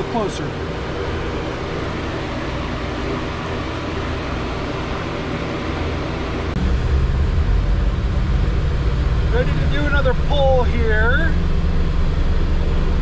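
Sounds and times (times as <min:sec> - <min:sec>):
fan rushing air and hum: 0:00.0 - 0:13.0.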